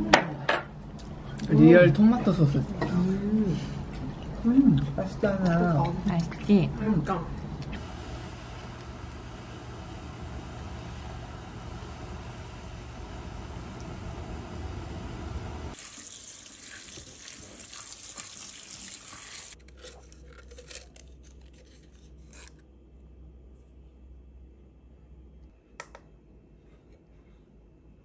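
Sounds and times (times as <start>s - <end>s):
faint hum: 0.0s - 15.8s, 19.6s - 28.0s.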